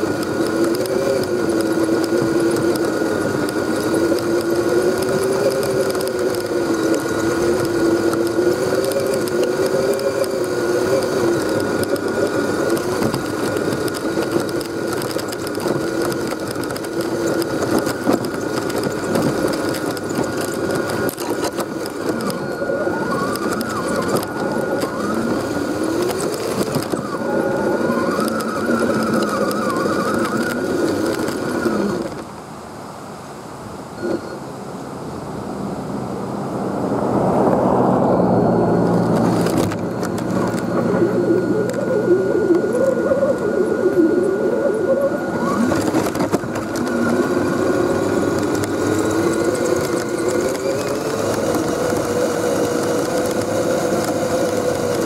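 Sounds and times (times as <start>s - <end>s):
electric motor and gears whining: 0.0s - 32.5s, 34.0s - 55.0s.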